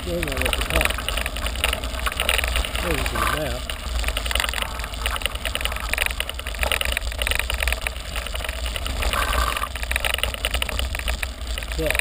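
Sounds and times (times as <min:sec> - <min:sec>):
bike rattling: 0:00.0 - 0:12.0
bike tyres crunching on gravel: 0:00.0 - 0:12.0
wind rumbling on microphone: 0:00.0 - 0:12.0.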